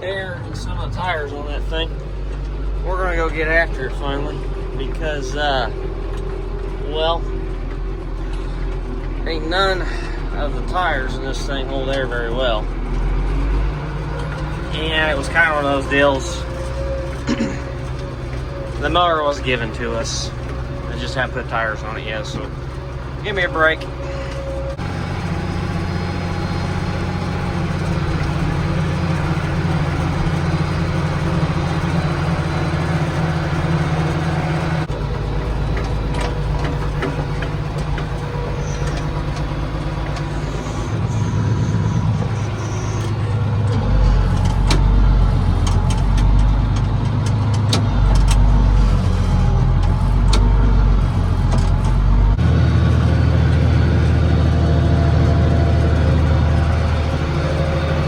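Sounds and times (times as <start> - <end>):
vehicle engine running: 0.0 - 58.0
light clicks and rattles: 1.7 - 52.4.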